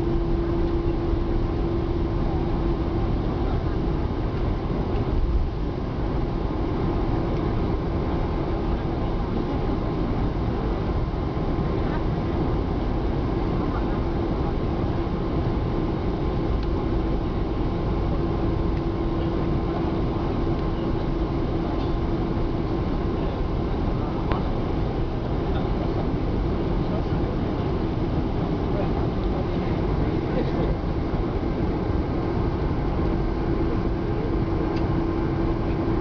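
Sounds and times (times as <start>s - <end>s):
airplane cabin engine rumble: 0.0s - 36.0s
constant cabin hum: 0.0s - 36.0s.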